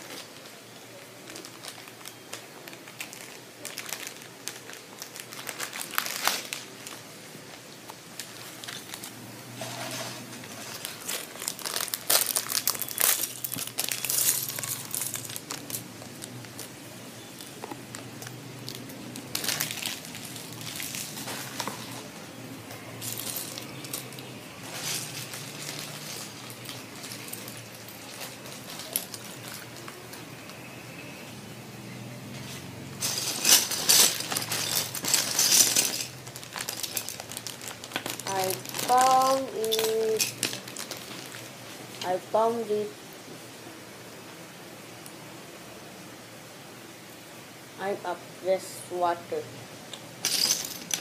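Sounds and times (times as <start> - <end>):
plastic bags crinkling: 0.0 - 30.7, 32.4 - 42.9, 50.0 - 51.0.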